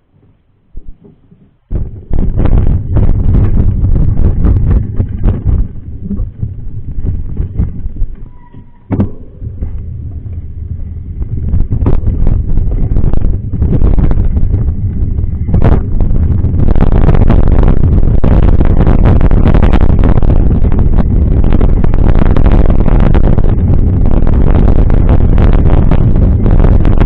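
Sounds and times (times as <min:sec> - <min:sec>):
wind buffeting microphone: 0:00.0 - 0:27.0
bike rattling and knocking: 0:00.8 - 0:27.0.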